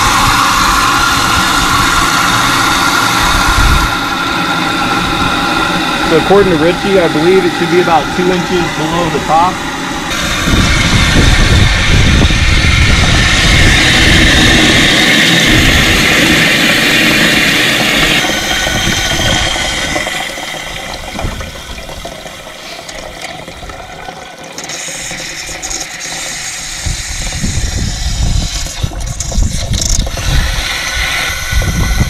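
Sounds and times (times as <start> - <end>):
water rushing through float valve: 0.0 - 32.0.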